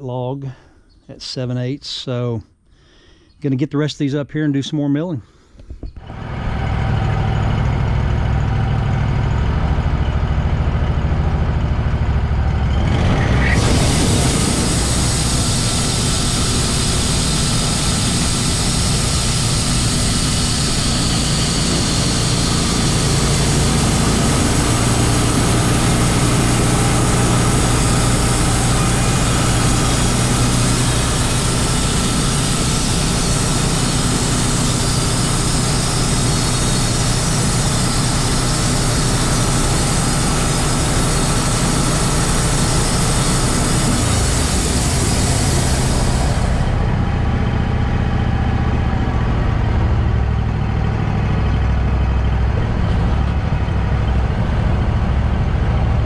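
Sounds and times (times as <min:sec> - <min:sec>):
engine humming steadily: 0:05.2 - 0:56.0.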